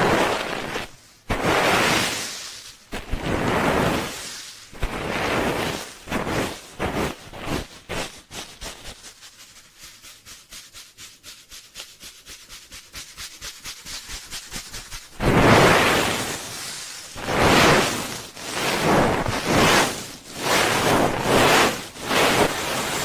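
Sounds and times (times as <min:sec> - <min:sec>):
hands rubbing over microphone: 0:00.0 - 0:23.0.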